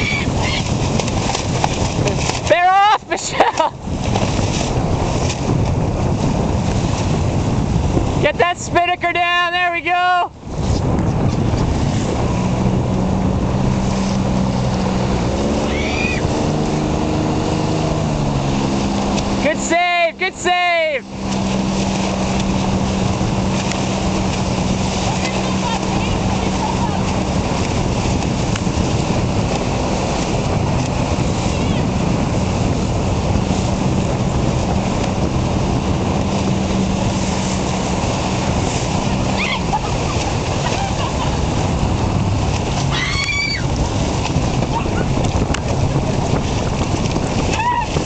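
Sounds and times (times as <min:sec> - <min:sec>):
motorboat engine running: 0:00.0 - 0:48.0
water noise: 0:00.0 - 0:48.0
wind: 0:00.0 - 0:48.0.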